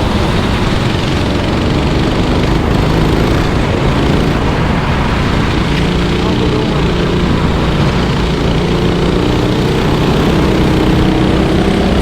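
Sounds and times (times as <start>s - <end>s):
kart engines passing by: 0.0s - 12.0s
steady noisy rush: 0.0s - 12.0s.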